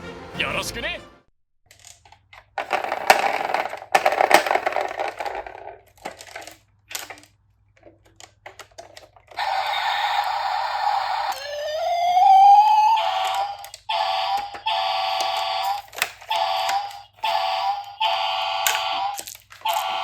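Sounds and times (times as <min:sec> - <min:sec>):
toy plastic parts clattering: 0:01.7 - 0:20.0.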